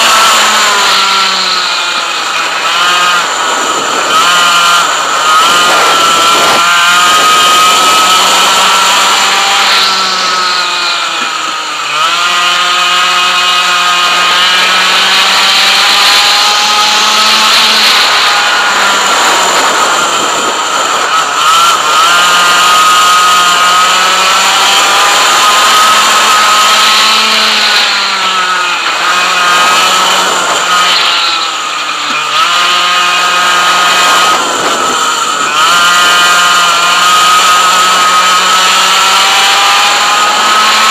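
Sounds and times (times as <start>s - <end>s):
kart engine at high revs: 0.0s - 40.9s.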